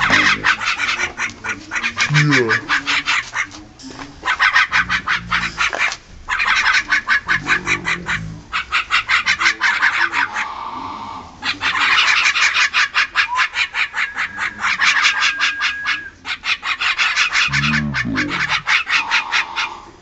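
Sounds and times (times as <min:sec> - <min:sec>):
birds chattering harshly: 0:00.0 - 0:20.0
hoarse bird call: 0:00.0 - 0:20.0.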